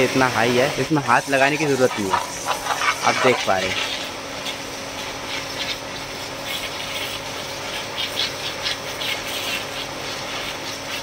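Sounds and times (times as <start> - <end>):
pressure washer jet hissing: 0.0 - 11.0
pump motor humming: 0.0 - 11.0.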